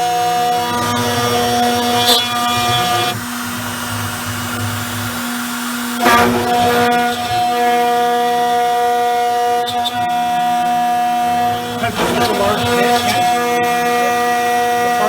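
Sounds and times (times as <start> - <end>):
bit cutting aluminum: 0.0 - 15.0
router spindle whining: 0.0 - 15.0.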